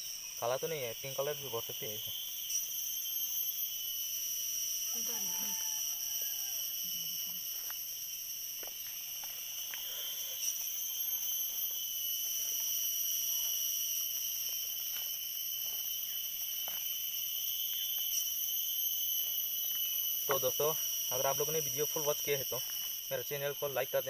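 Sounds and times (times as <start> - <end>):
forest insects droning: 0.0 - 24.0.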